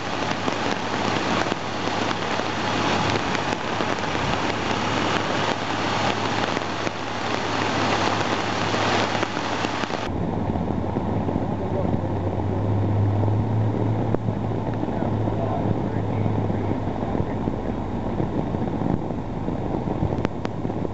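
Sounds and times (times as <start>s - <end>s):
floodwater rushing: 0.0s - 20.9s
truck engine humming: 0.0s - 20.9s.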